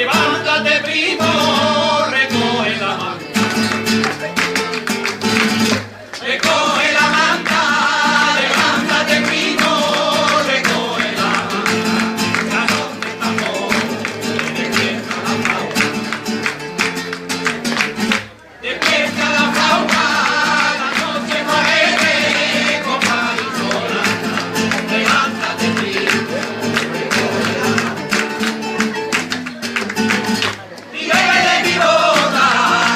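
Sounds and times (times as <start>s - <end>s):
plucked guitar: 0.0s - 32.9s.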